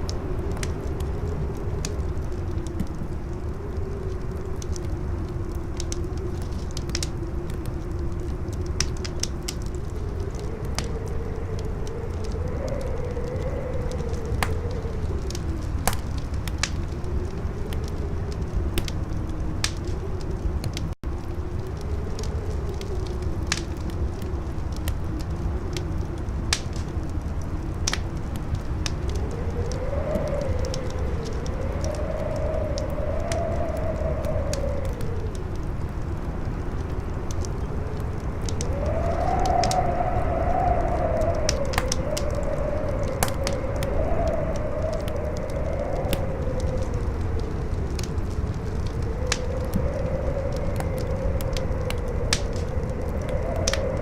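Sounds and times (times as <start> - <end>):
campfire crackling: 0.0 - 54.0
strong howling wind: 0.0 - 54.0.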